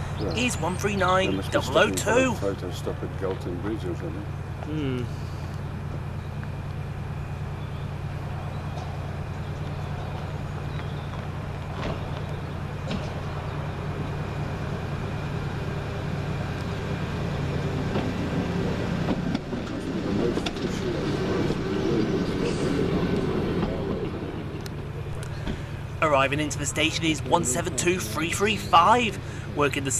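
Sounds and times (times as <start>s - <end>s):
approaching train rumbling: 0.0s - 4.6s, 5.3s - 29.9s
diesel train engine running: 0.0s - 29.9s.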